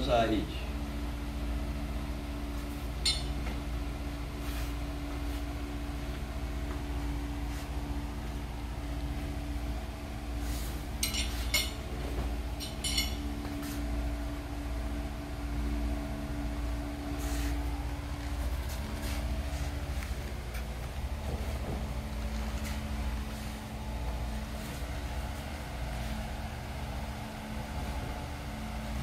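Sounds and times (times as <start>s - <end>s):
ventilation hum: 0.0s - 29.0s.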